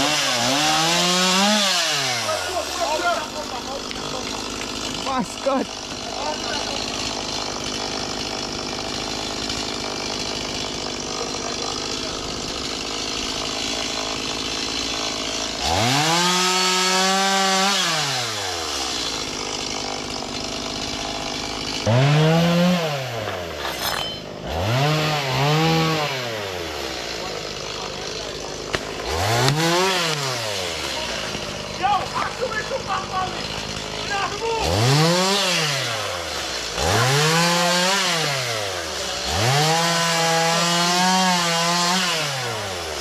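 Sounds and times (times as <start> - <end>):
chainsaw idling and revving: 0.0 - 43.0.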